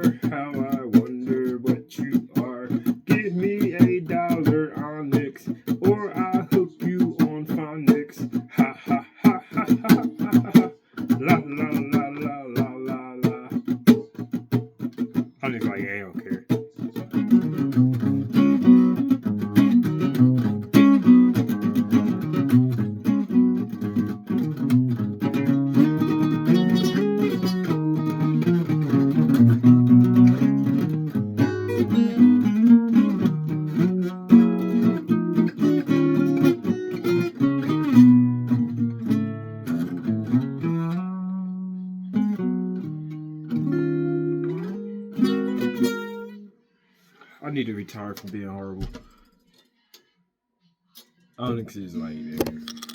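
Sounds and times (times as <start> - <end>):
acoustic guitar played rapidly: 0.0 - 46.4.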